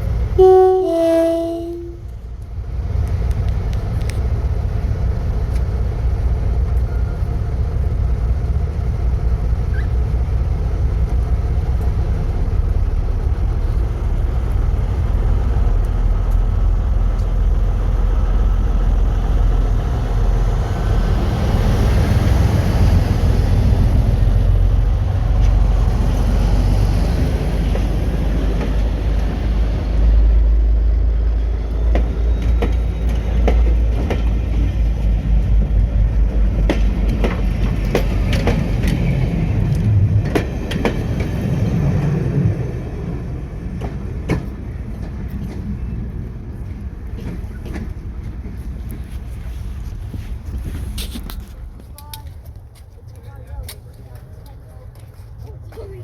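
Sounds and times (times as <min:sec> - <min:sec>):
diesel train engine rumbling: 0:00.0 - 0:56.0.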